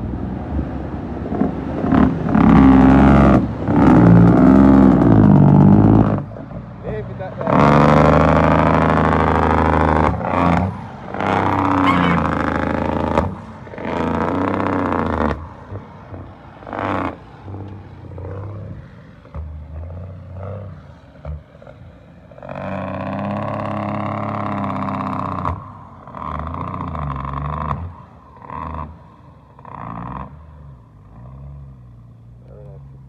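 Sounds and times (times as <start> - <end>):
dump truck engine pulling away: 0.0 - 33.0.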